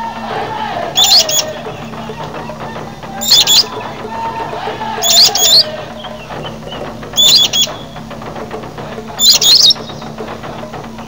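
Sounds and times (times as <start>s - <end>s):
steady low hum: 0.0s - 11.0s
bird fluttering call: 1.0s - 8.2s, 9.0s - 11.0s.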